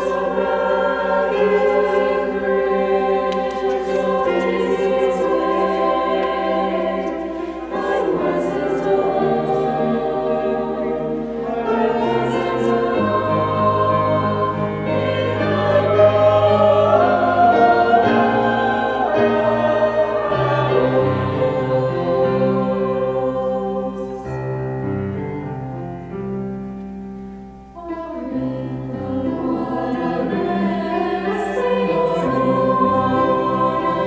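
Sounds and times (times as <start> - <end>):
choir singing sustained chords: 0.0 - 34.0
grand piano accompaniment: 0.0 - 34.0.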